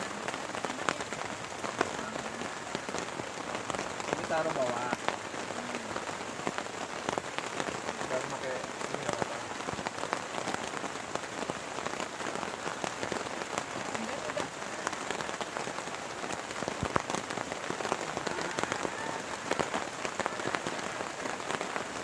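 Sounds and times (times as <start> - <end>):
heavy rain falling: 0.0 - 22.0
raindrops pattering: 0.0 - 22.0.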